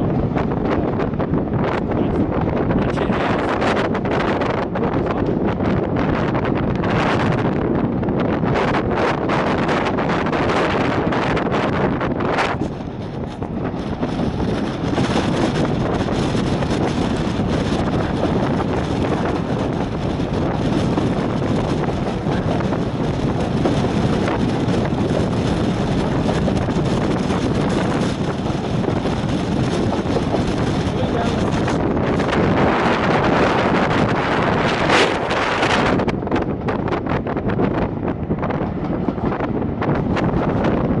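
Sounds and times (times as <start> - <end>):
railway carriage rumbling on track: 0.0 - 41.0
wind buffeting microphone: 0.0 - 41.0.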